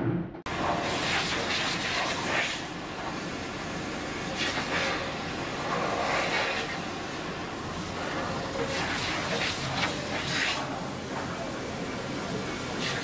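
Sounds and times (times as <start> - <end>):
spray gun hissing: 0.6 - 13.0.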